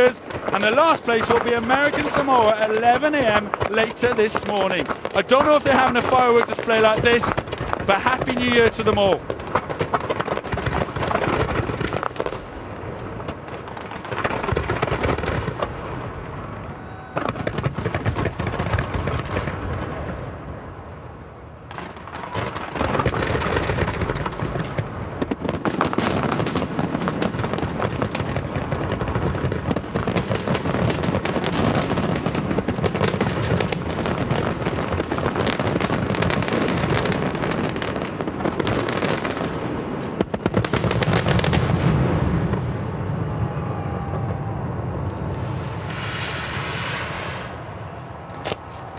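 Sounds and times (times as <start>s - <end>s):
fireworks bangs and crackling: 0.0s - 20.6s, 21.6s - 48.9s.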